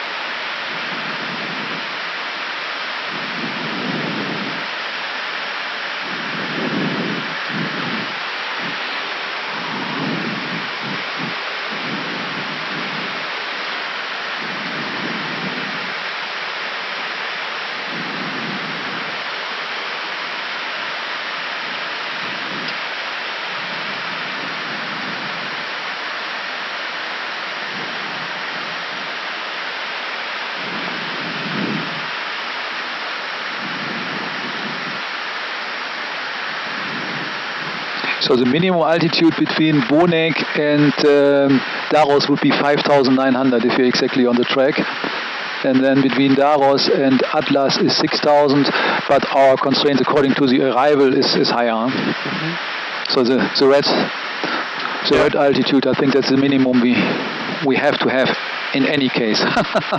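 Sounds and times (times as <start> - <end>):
rushing airflow in cockpit: 0.0 - 50.4, 51.1 - 59.9.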